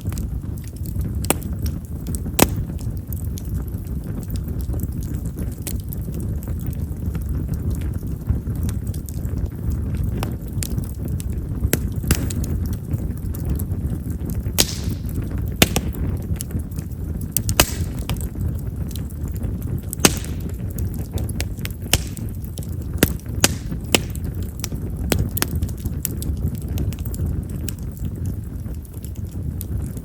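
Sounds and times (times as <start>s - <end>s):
firewood crackling and popping: 0.0s - 30.0s
low fire rumble: 0.0s - 30.0s.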